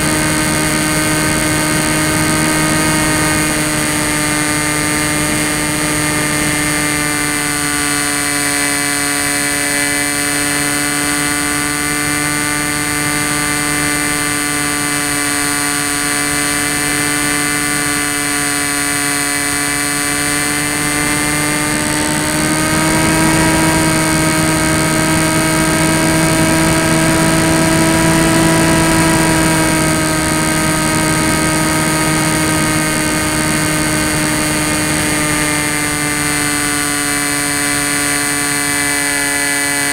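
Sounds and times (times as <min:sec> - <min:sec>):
electric motor high whine: 0:00.0 - 0:39.9.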